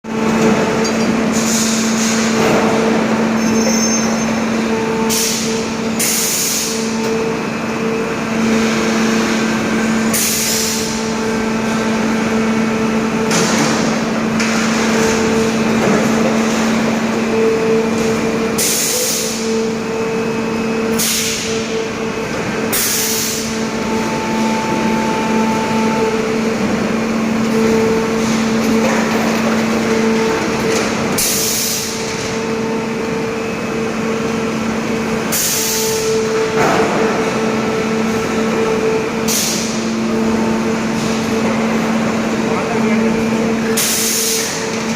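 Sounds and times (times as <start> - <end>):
factory machinery running: 0.0 - 44.9.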